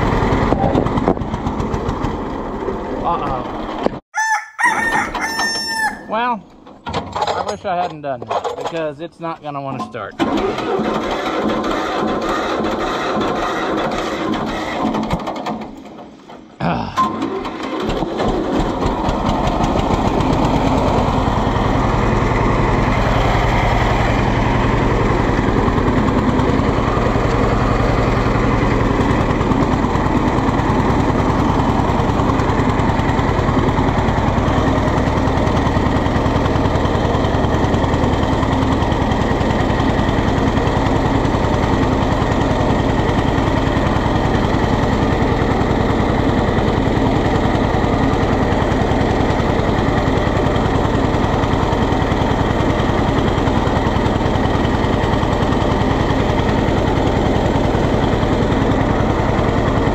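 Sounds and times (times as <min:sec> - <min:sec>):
tractor engine pulsing: 0:00.0 - 0:03.9, 0:04.7 - 0:59.9.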